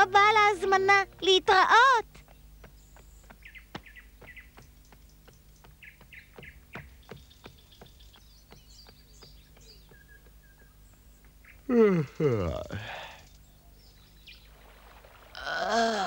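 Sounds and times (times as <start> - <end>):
birds chirping: 0.0 - 15.5.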